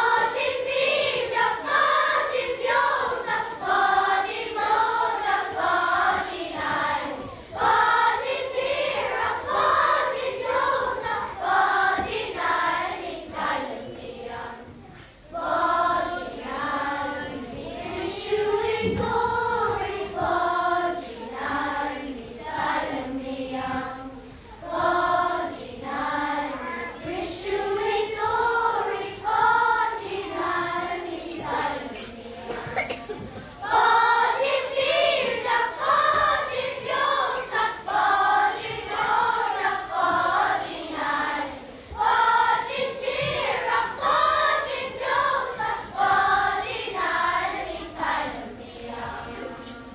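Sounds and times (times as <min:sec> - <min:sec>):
children's choir singing: 0:00.0 - 0:49.9.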